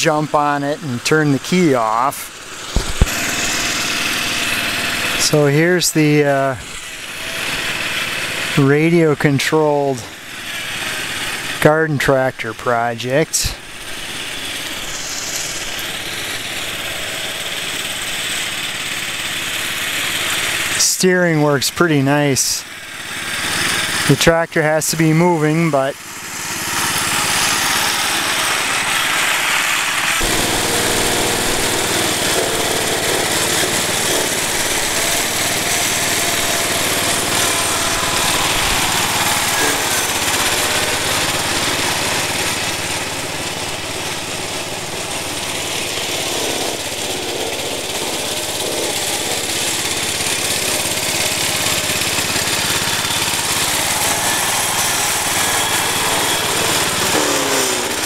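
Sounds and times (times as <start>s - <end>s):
garden tractor engine running: 0.0s - 58.0s.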